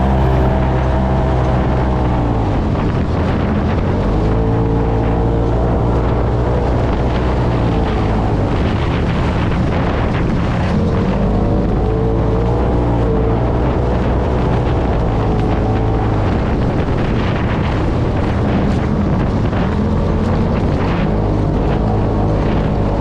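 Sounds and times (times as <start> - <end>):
engine running hard: 0.0 - 23.0
wind buffeting microphone: 0.0 - 23.0.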